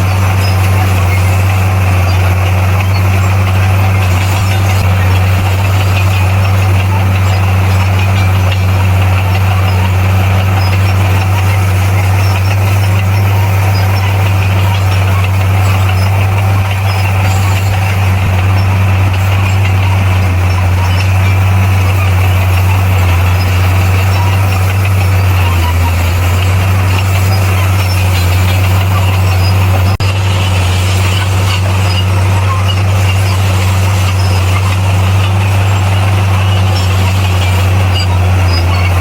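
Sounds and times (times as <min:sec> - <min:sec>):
bulldozer diesel engine drone: 0:00.0 - 0:39.0.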